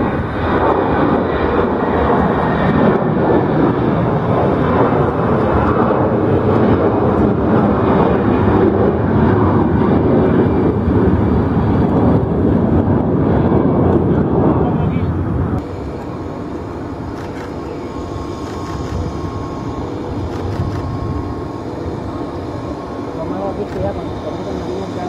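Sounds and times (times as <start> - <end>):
jet engines roaring at climb: 0.0 - 25.0.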